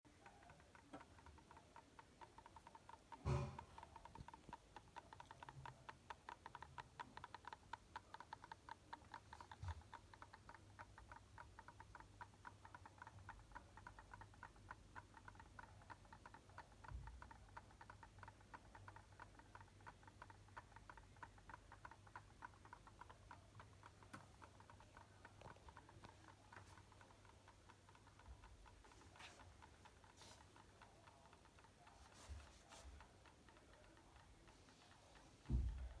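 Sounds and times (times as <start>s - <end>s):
faint rapid ticking: 0.1s - 36.0s.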